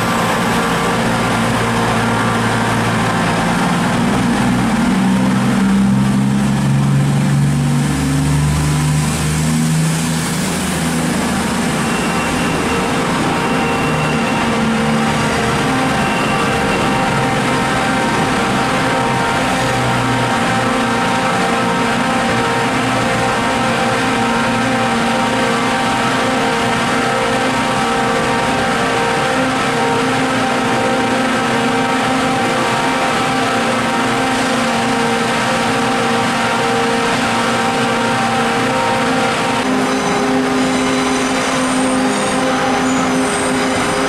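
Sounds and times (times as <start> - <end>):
train droning: 0.0 - 44.0.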